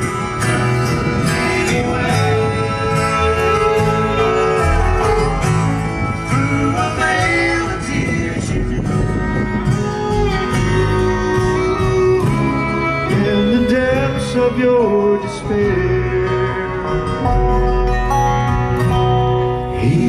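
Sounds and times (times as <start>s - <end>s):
bluegrass band over sound system: 0.0s - 20.0s.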